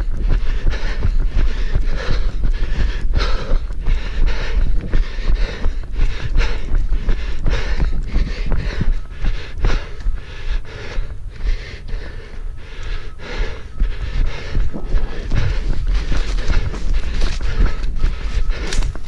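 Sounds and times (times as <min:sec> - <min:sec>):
heavy breathing: 0:00.0 - 0:19.0
running footfalls: 0:00.0 - 0:19.0
wind buffeting microphone: 0:00.0 - 0:19.0.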